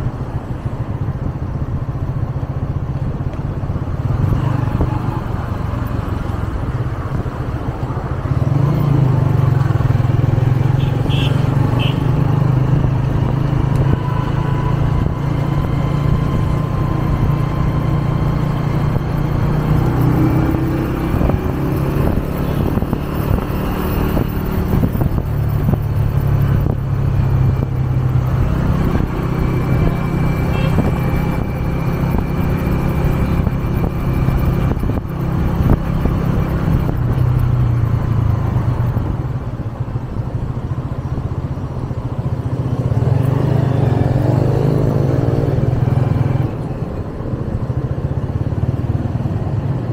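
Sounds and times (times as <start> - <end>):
motorcycle engine running: 0.0 - 49.9
road and wind noise: 0.0 - 49.9.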